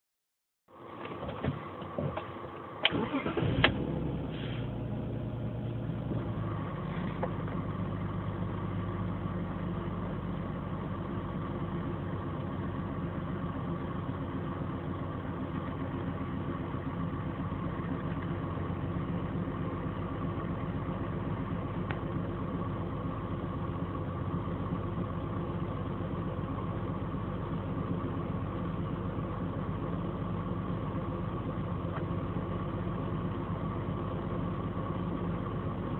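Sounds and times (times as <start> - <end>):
car engine idling: 0.7 - 35.9.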